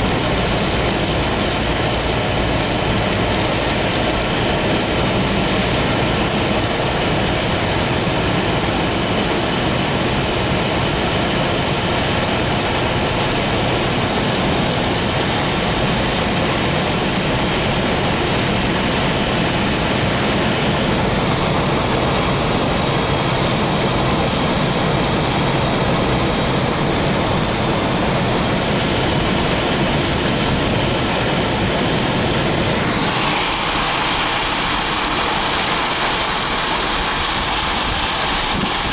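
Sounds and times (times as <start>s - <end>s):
rain on car: 0.0s - 38.9s
tyres hissing on wet road: 0.0s - 38.9s.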